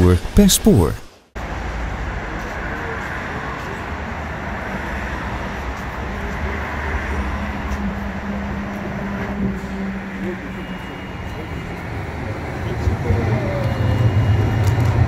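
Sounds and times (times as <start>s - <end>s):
tram rumble and hiss: 0.0s - 15.0s.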